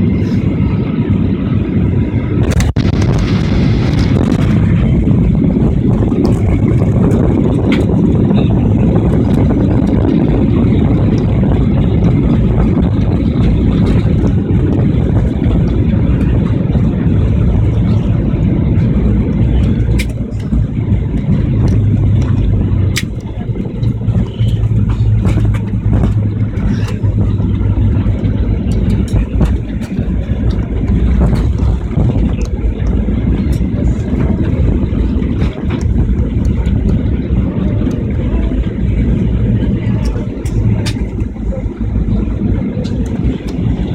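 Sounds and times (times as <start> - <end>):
tyres rumbling on runway: 0.0 - 43.9.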